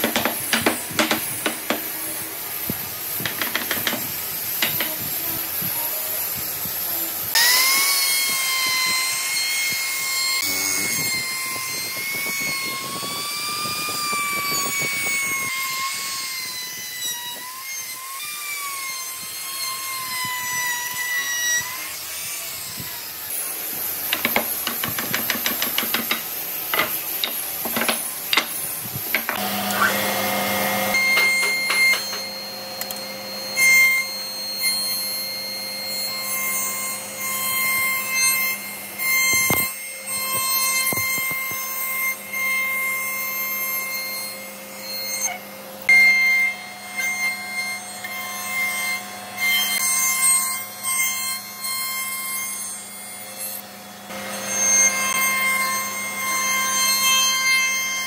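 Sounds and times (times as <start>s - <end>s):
router table motor hum: 0.0s - 45.6s, 47.9s - 58.0s
trim router cutting wood: 0.0s - 58.0s.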